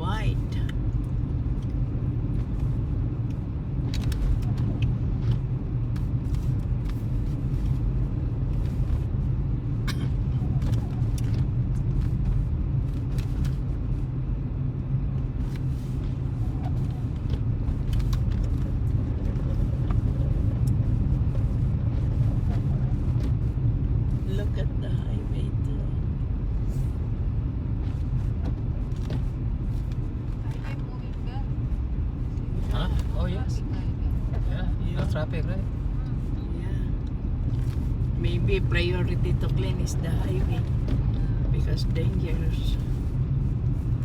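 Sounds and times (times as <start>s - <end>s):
road and engine noise in car: 0.0s - 44.0s.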